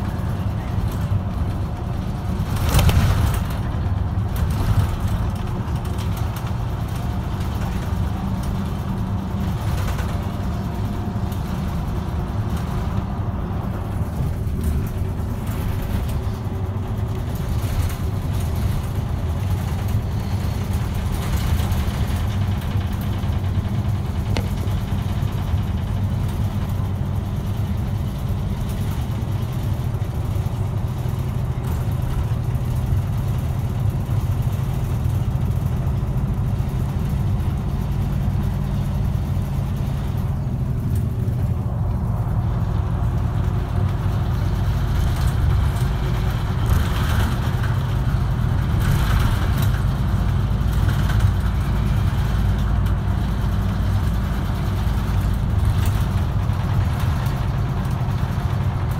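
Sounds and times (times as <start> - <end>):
bus engine humming: 0.0 - 58.9
road and tyre noise: 0.0 - 58.9.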